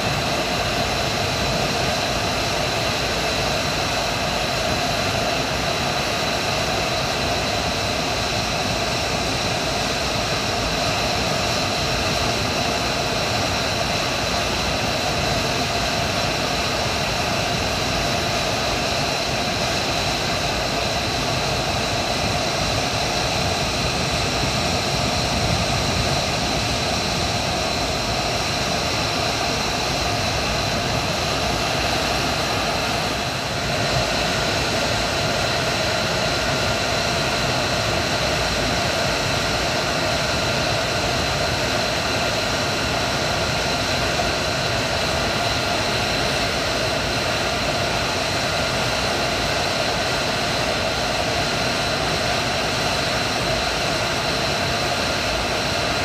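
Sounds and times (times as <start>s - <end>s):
jet engine idling: 0.0s - 56.0s.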